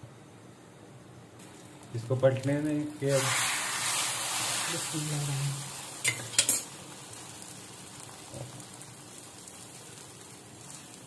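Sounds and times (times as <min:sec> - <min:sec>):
bread sizzling on griddle: 0:01.4 - 0:11.0.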